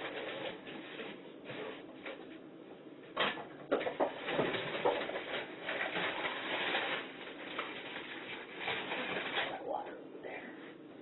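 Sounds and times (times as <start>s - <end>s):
objects clattering and rustling: 0.0s - 2.4s, 3.1s - 9.8s.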